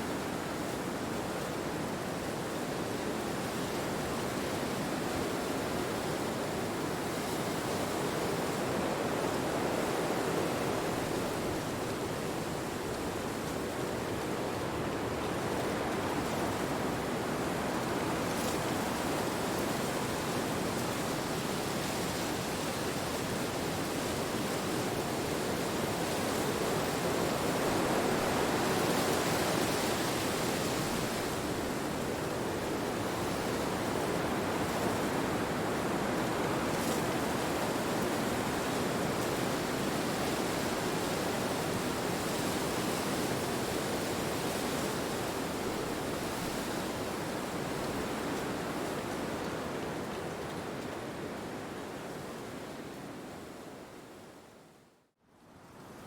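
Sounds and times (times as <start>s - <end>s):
wind through trees: 0.0s - 56.0s.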